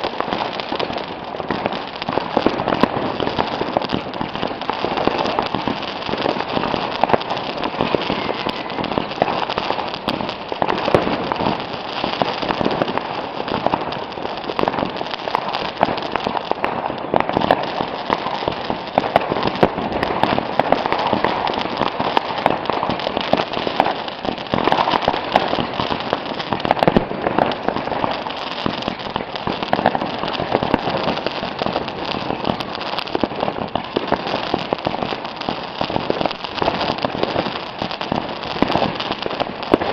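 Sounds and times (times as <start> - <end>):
fireworks crackling with small bangs: 0.0 - 39.9.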